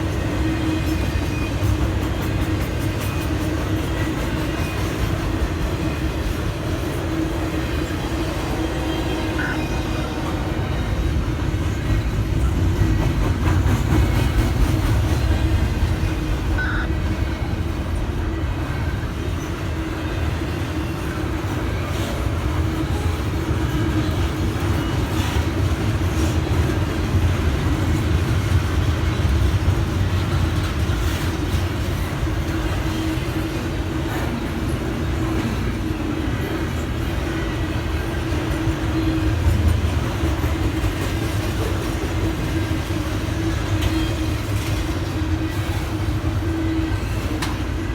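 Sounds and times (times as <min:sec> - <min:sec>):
freight train wheels rumbling on rail: 0:00.0 - 0:47.9.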